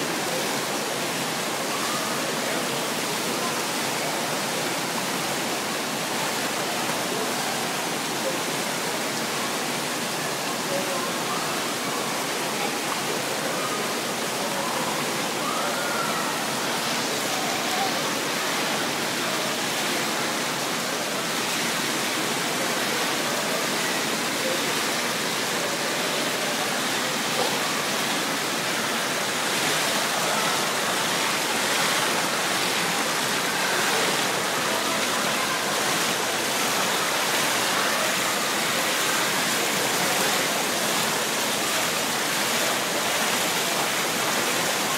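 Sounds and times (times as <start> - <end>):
faint voices: 0.0 - 44.9
pool water rushing and bubbling: 0.0 - 44.9.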